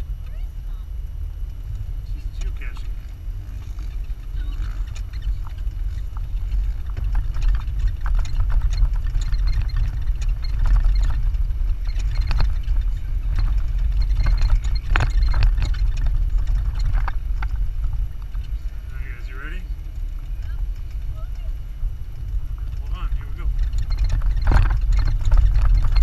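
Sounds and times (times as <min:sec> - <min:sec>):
vehicle engine rumble: 0:00.0 - 0:26.0
knocks and rattles: 0:01.6 - 0:26.0.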